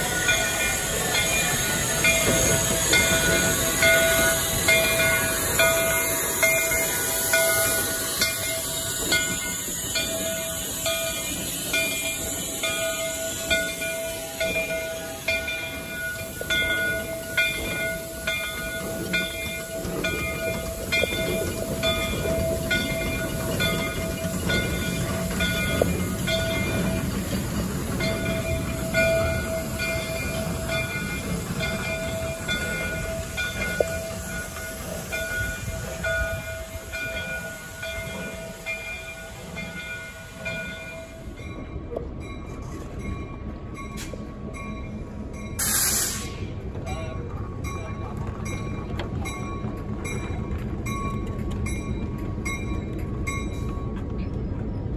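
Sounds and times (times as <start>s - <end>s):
railway bell ringing: 0.0s - 54.7s
low rumble of locomotives: 0.0s - 54.9s.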